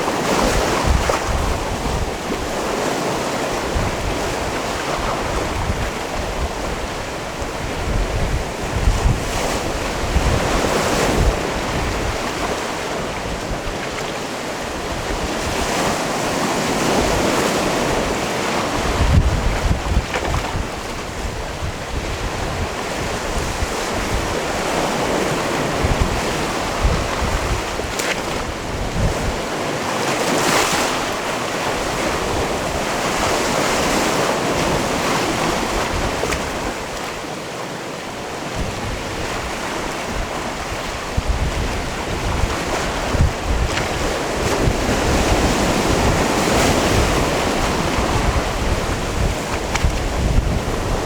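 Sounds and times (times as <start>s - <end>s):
wind buffeting microphone: 0.0s - 37.3s, 38.2s - 51.0s
waves washing onto rocky shore: 0.0s - 51.0s.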